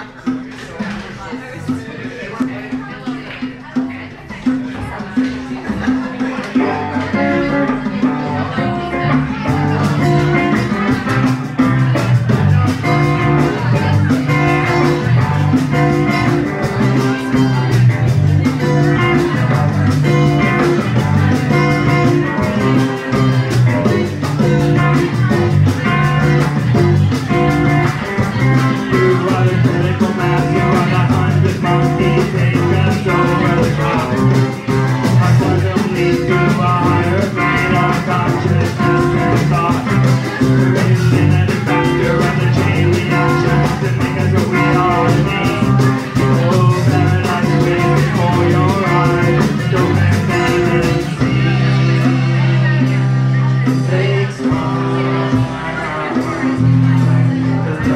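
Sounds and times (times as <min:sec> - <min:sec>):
acoustic guitar: 0:00.0 - 0:57.9
drum kit: 0:00.0 - 0:57.9
live band playing: 0:00.0 - 0:57.9.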